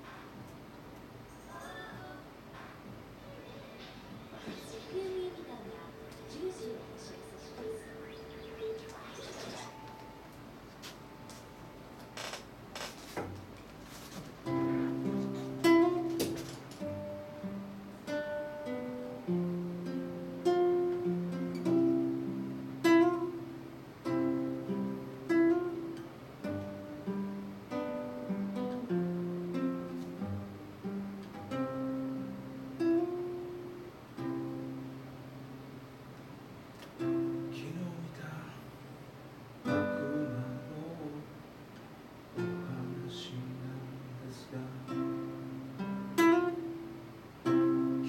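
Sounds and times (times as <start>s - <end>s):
acoustic guitar chords: 1.9s - 48.0s.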